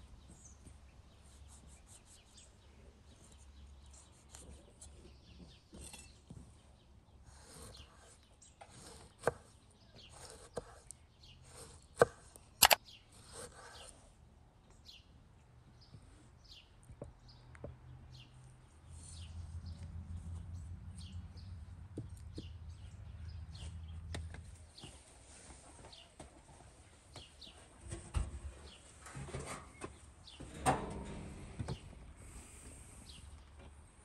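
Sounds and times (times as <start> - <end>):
small birds chirping: 0.0 - 29.0, 29.7 - 30.6, 31.4 - 34.0.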